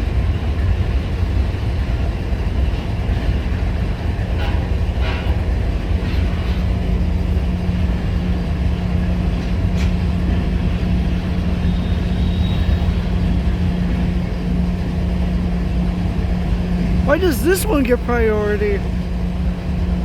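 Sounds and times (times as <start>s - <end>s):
freight train rumbling past: 0.0s - 17.1s.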